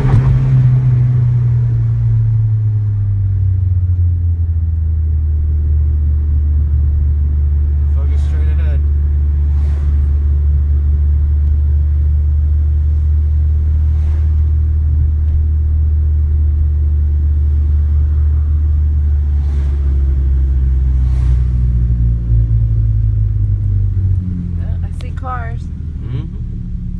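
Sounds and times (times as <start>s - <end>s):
car engine rumbling: 0.0s - 26.9s
road noise: 0.0s - 26.9s.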